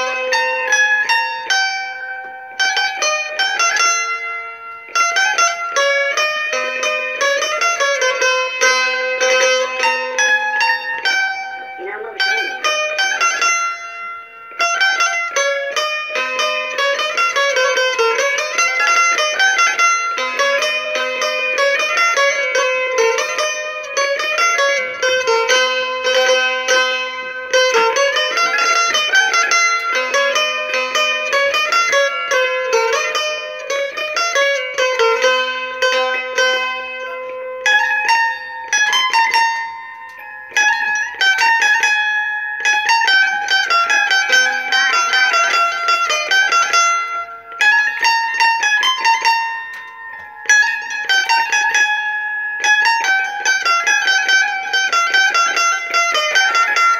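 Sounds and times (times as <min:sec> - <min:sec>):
plucked lute folk melody: 0:00.0 - 0:56.9.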